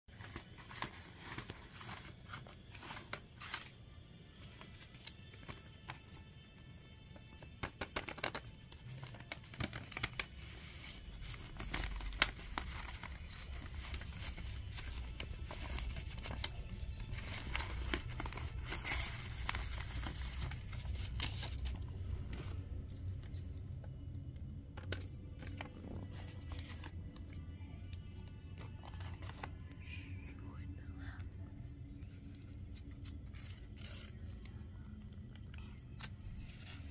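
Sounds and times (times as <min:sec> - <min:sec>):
paper crinkling and tearing: 0:00.1 - 0:03.8, 0:04.4 - 0:06.3, 0:06.9 - 0:29.8, 0:31.9 - 0:36.9.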